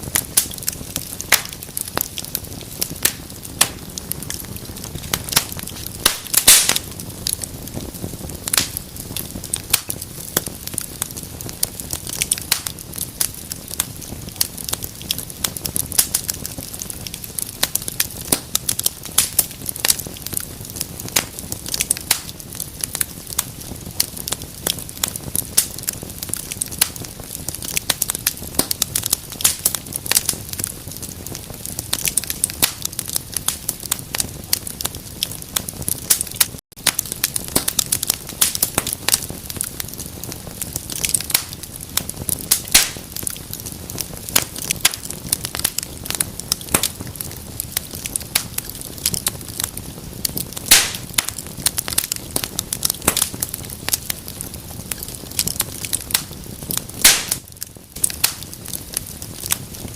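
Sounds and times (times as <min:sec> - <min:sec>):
fireplace fire crackling: 0:00.0 - 0:59.9
low rumble of flames: 0:00.0 - 0:59.9.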